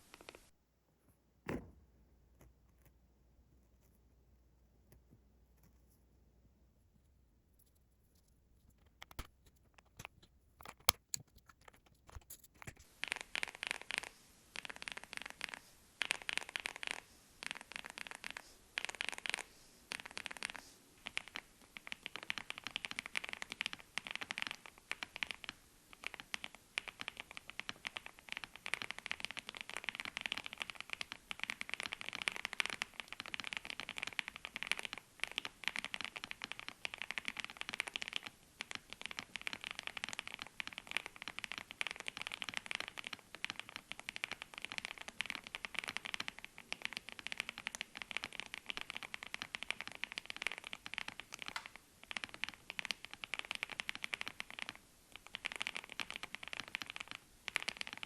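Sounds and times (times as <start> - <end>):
mechanical keyboard typing: 7.6 - 58.0.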